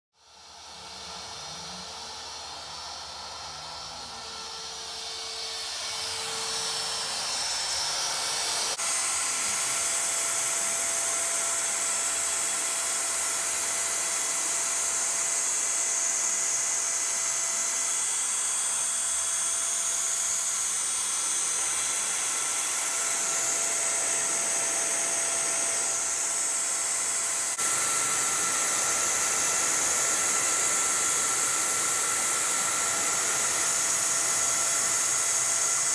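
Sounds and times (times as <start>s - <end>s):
router spindle whining: 0.2s - 35.9s.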